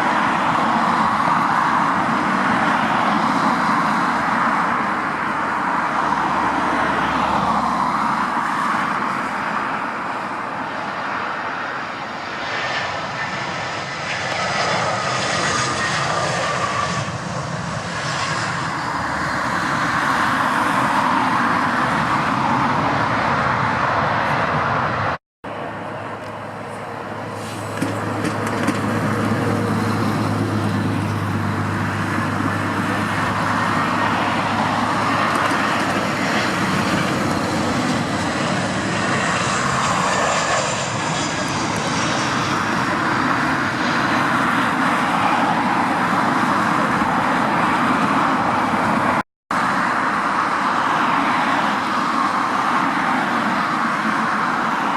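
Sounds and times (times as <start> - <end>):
jet engine rushing: 0.0 - 54.9.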